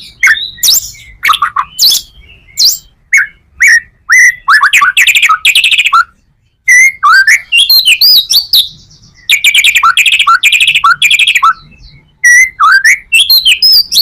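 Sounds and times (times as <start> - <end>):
bird singing varied song: 0.0 - 14.0.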